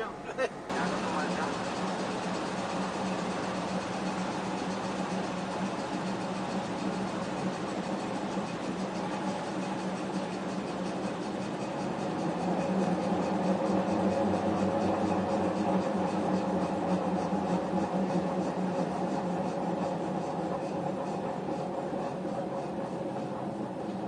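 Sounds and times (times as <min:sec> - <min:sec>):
diesel locomotive engine humming: 0:00.0 - 0:24.0.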